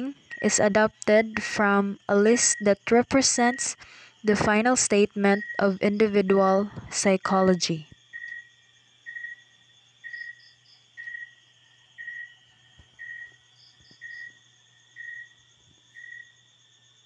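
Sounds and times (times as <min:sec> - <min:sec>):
high insect trill: 0:00.0 - 0:17.0
insect chirping: 0:00.0 - 0:17.0.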